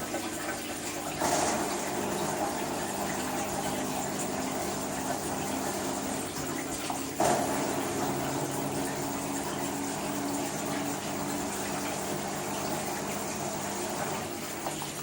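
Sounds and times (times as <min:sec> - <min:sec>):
water rushing into washing machine: 0:00.0 - 0:15.0.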